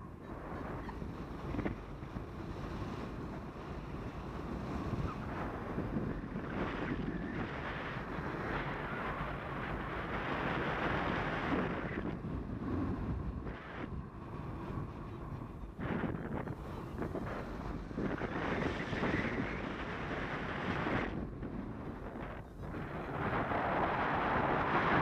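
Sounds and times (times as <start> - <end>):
airflow buffeting microphone: 0.0 - 25.0.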